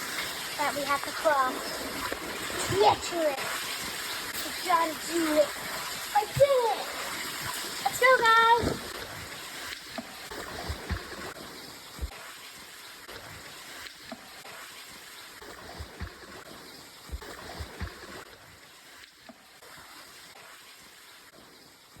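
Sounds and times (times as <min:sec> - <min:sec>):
stream water running: 0:00.0 - 0:22.0.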